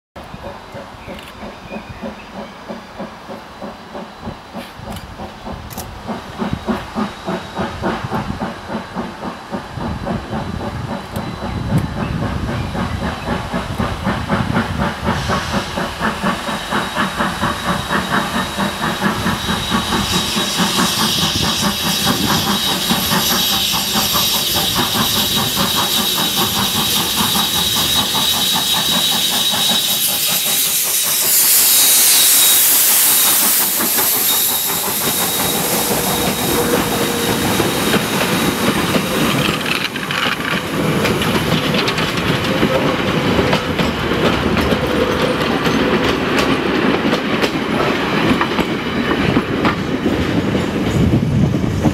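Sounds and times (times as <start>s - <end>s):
steam hissing: 0.2s - 51.9s
steam locomotive exhaust chuffing: 0.2s - 51.9s.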